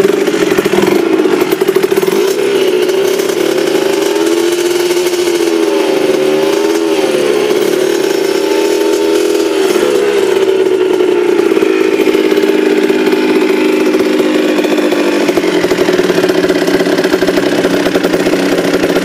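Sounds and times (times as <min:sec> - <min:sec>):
two-stroke engine running: 0:00.0 - 0:19.0.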